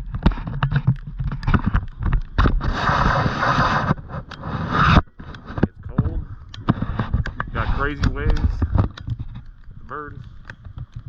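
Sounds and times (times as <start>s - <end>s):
knocks and bumps on camera: 0.0s - 4.3s, 4.9s - 9.5s.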